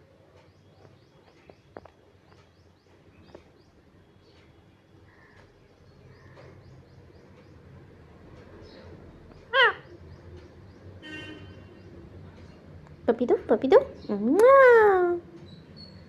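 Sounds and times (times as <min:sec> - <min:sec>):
bird chirping: 0:00.3 - 0:12.8, 0:15.4 - 0:16.0.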